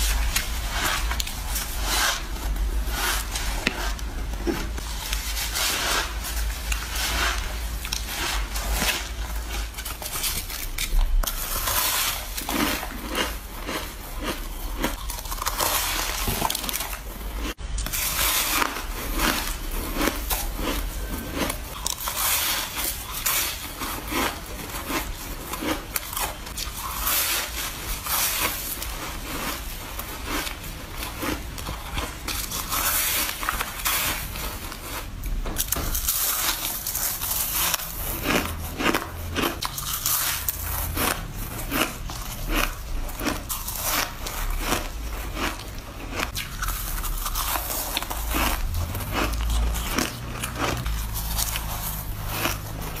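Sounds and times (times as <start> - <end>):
biting into crunchy frozen ice: 0.0 - 35.0, 35.6 - 53.0.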